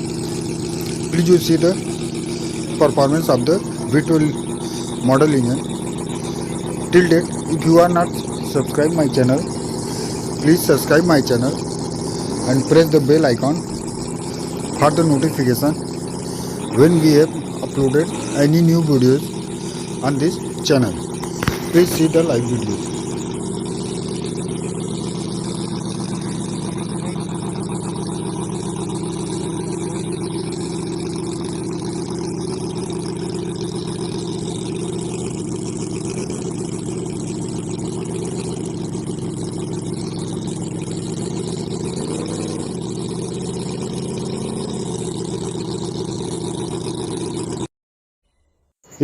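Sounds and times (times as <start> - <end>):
model engine running: 0.0 - 47.7.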